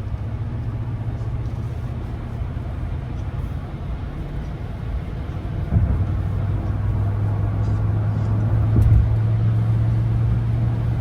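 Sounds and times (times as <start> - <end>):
pickup truck driving drone: 0.0 - 11.0.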